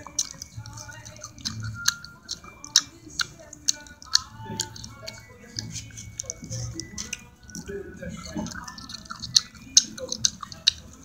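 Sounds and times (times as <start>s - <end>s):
mouth clicks: 0.0s - 11.0s
person chewing food: 0.0s - 11.0s.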